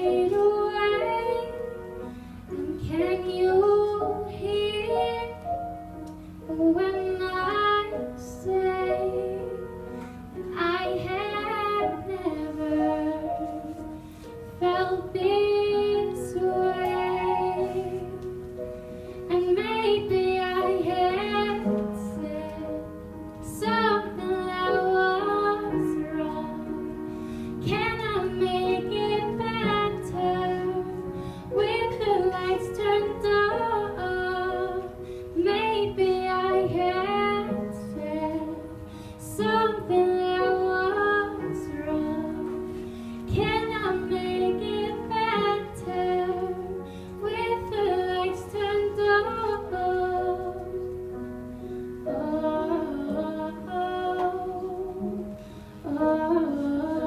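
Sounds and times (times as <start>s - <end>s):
girl singing into microphone: 0.0s - 18.5s, 19.2s - 57.0s.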